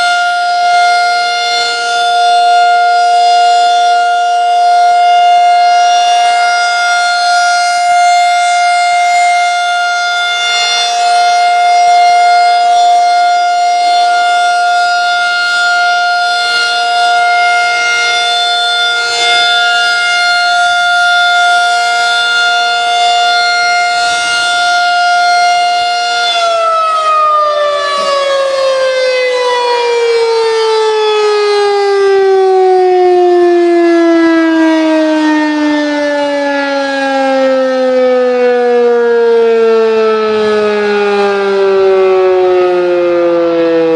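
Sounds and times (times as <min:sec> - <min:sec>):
tornado siren: 0:00.0 - 0:43.9.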